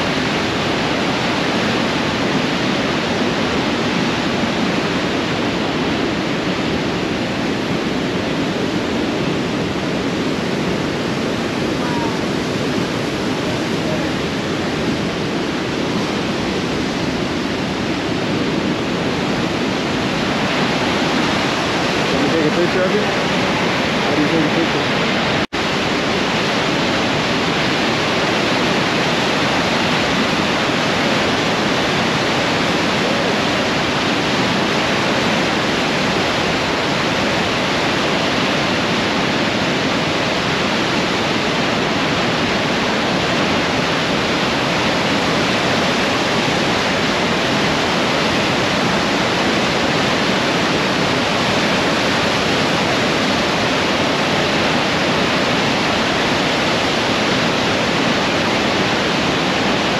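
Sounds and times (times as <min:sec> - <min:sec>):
water roaring over rapids: 0:00.0 - 0:59.9.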